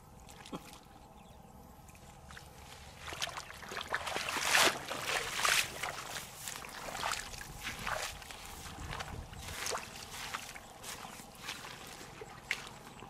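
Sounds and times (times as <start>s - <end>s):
bare feet squelching in mud: 2.1s - 13.0s.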